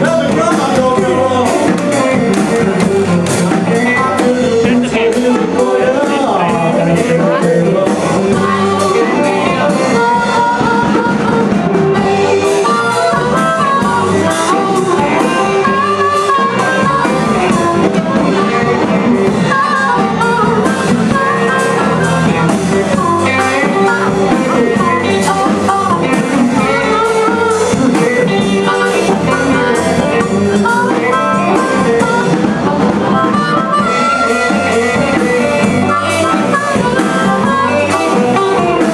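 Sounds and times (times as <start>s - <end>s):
drum kit: 0.0s - 38.9s
electric guitars: 0.0s - 38.9s
harmonica: 0.0s - 38.9s.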